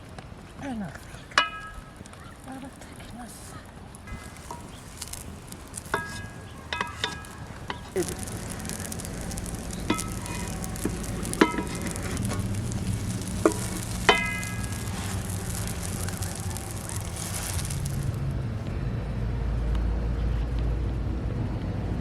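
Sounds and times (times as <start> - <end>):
meat sizzling on a grill: 0.8 - 18.6.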